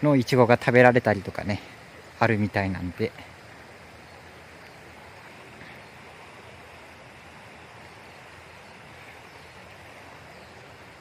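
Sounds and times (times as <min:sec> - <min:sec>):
stream flowing over stones: 0:00.0 - 0:11.0.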